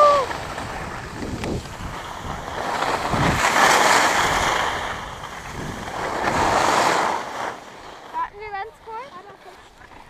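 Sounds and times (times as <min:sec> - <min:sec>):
wind rushing over microphone: 0:00.0 - 0:08.9
skis hissing on packed snow: 0:00.0 - 0:10.0.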